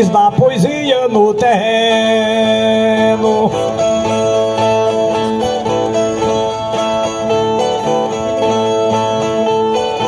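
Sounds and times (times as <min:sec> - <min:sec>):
plucked guitar melody over drone: 0:00.0 - 0:10.0.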